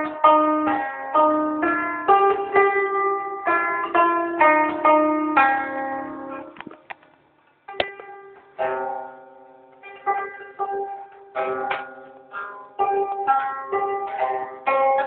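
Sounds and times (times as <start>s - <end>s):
plucked zither notes: 0.0s - 7.0s, 7.7s - 15.0s.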